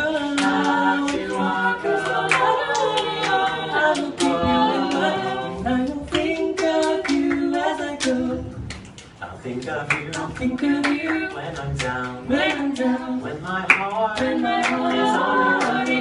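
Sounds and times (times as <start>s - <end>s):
vocal group singing a cappella: 0.0s - 16.0s.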